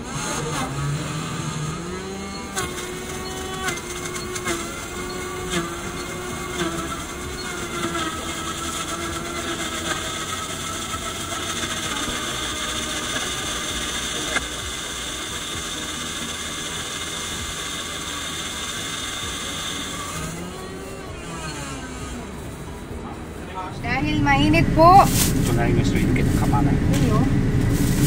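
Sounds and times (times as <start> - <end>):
smoothie blender motor whine: 0.0 - 28.0.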